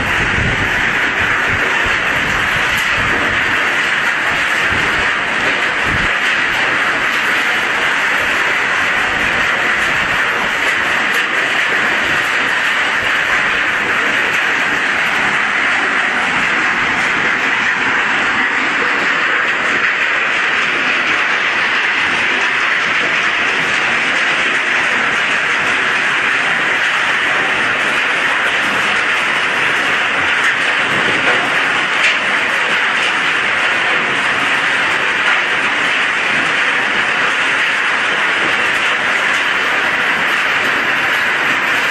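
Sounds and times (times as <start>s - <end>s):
scrap steel crusher running: 0.0s - 41.9s.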